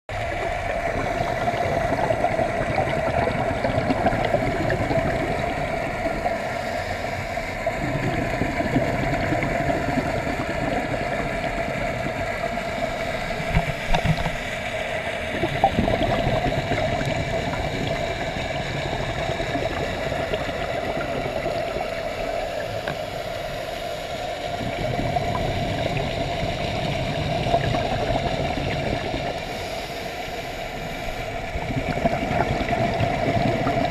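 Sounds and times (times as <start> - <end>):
steady hum: 0.1 - 33.9
underwater wash: 0.1 - 33.9.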